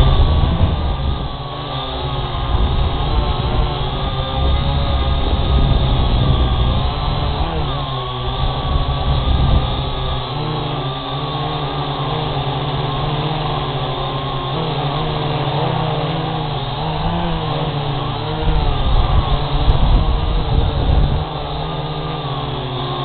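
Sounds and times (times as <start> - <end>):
low rumbling: 0.0 - 23.0
quadcopter propellers whirring: 0.0 - 23.0.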